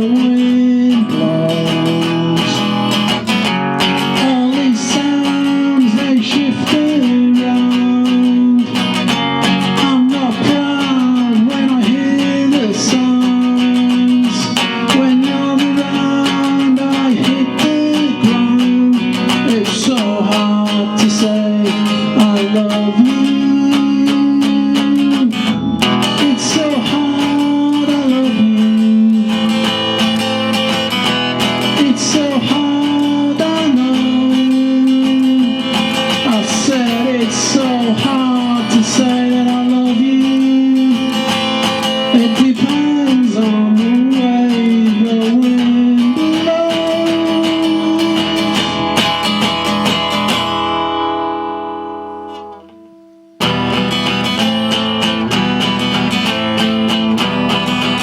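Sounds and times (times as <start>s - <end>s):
solo acoustic guitar: 0.0s - 58.0s.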